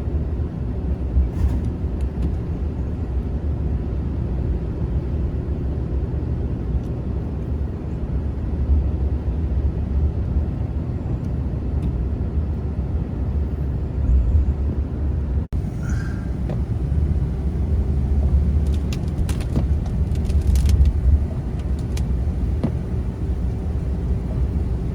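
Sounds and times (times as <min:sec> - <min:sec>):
vehicle driving rumble: 0:00.0 - 0:24.9.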